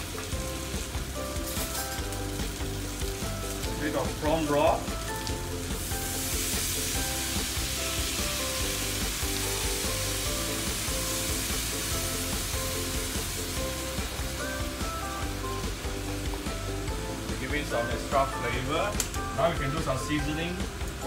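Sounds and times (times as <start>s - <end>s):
broth sizzling in hot wok: 0.0s - 21.0s.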